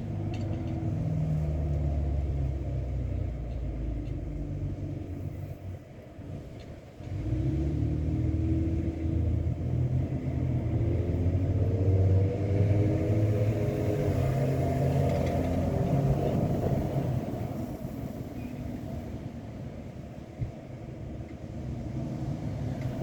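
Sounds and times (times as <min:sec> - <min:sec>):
low engine rumble with hum: 0:00.0 - 0:23.0.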